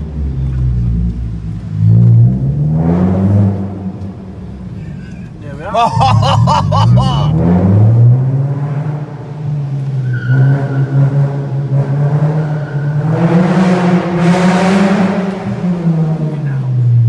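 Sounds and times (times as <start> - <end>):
car engine and exhaust echoing: 0.0 - 17.0.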